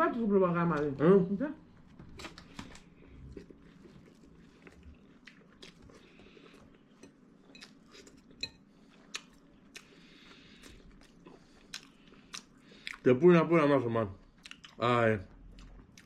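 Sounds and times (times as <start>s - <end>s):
person chewing food: 1.8s - 13.1s, 14.2s - 16.0s.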